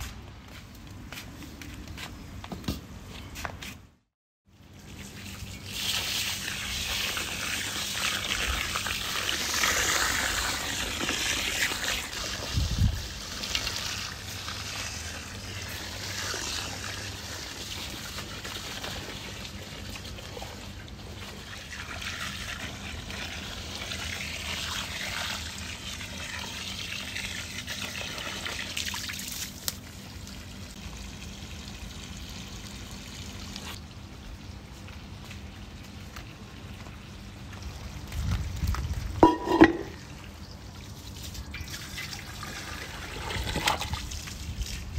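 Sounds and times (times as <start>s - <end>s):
water pouring and trickling: 4.5s - 44.9s.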